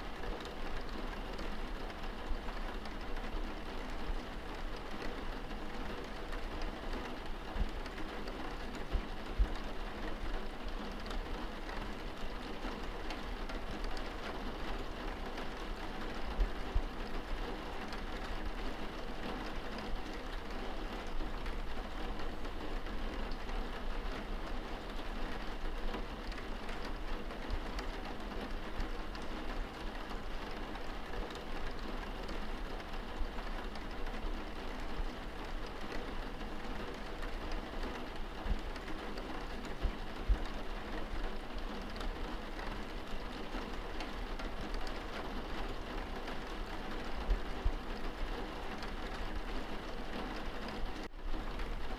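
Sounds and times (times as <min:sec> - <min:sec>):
rain pattering on window glass: 0:00.0 - 0:51.9.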